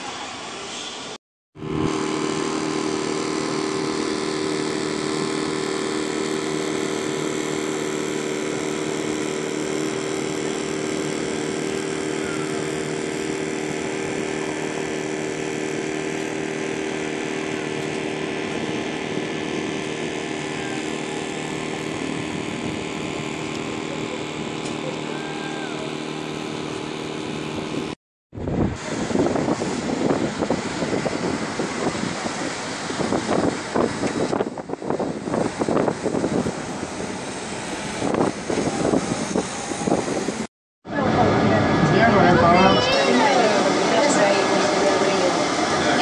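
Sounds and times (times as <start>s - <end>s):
motor drone: 1.6s - 46.0s.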